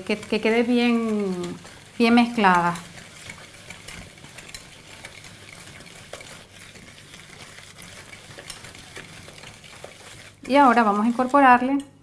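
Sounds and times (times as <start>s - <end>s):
whisk swishing through batter: 0.0s - 12.0s.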